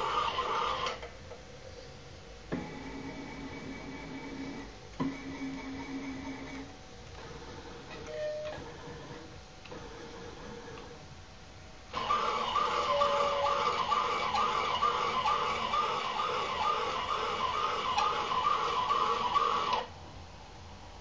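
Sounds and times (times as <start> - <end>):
milling machine motors whining: 0.0 - 1.1, 2.5 - 11.1, 11.9 - 19.9.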